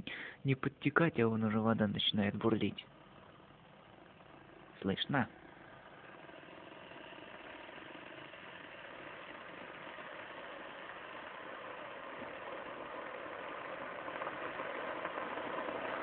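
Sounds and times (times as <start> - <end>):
electric kettle heating water: 2.9 - 16.0.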